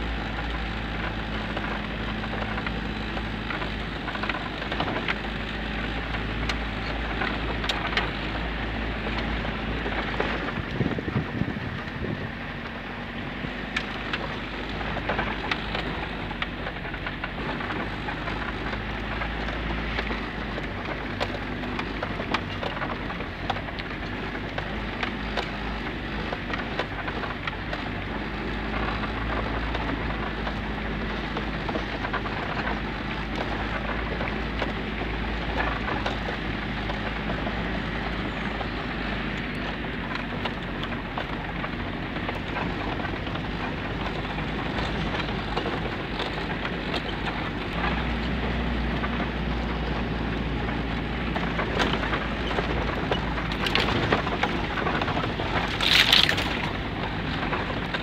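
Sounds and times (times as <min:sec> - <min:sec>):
car body rattling over bumps: 0:00.0 - 0:58.0
diesel engine running: 0:00.0 - 0:58.0.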